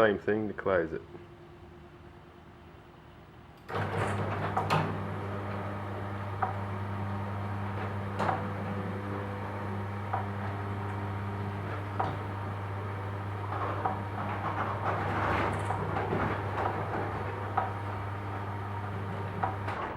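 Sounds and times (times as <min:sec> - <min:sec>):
garage door opener motor humming: 0:01.1 - 0:19.9.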